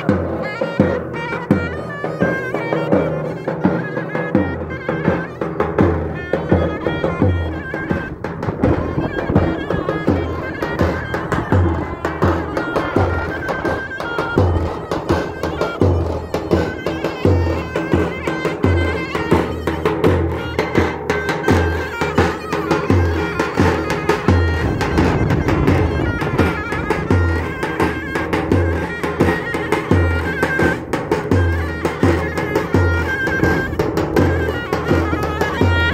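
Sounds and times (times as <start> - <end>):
shrill double-reed melody: 0.0 - 35.9.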